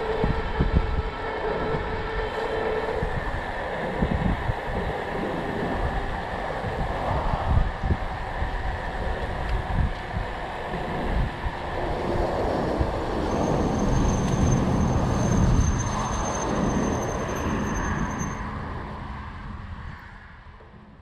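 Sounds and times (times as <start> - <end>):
bicycle road and tyre noise: 0.0 - 21.0
wind buffeting microphone: 0.0 - 21.0.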